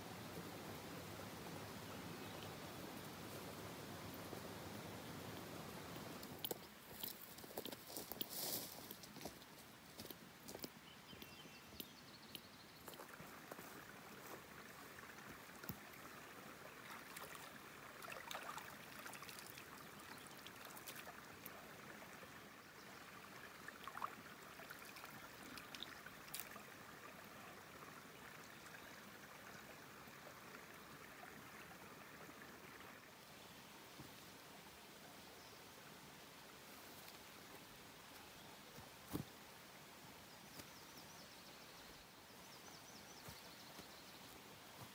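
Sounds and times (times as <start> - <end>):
creek trickling: 0.1 - 44.9.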